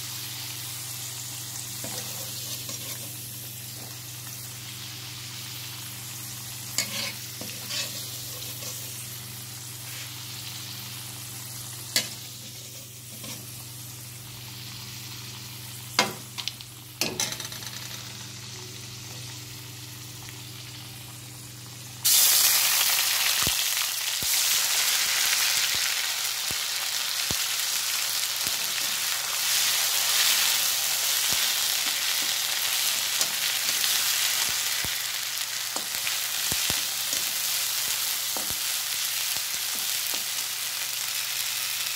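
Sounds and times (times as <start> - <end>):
loud steady sizzle: 0.0 - 41.9
potatoes frying in oil: 0.0 - 41.9.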